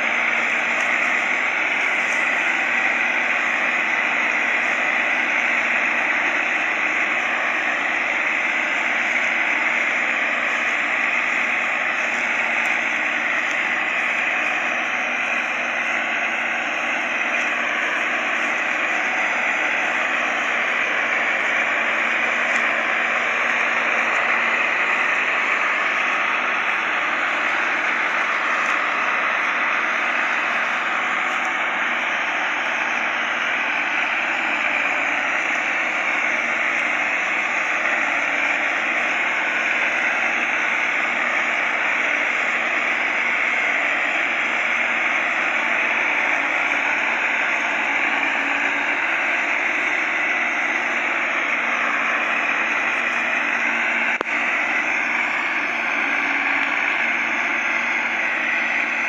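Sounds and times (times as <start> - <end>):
tractor engines droning: 0.0 - 59.0.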